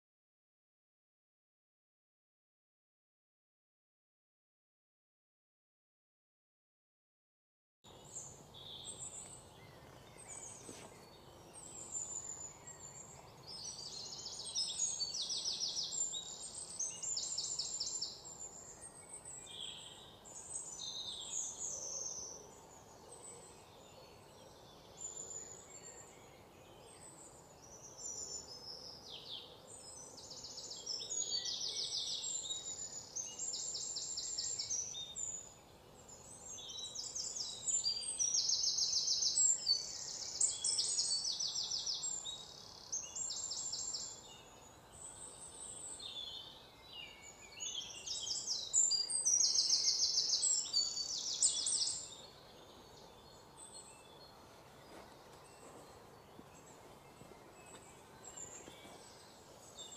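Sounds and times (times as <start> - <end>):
birds chirping and trilling: 7.9 - 59.9
faint outdoor hiss: 7.9 - 59.9.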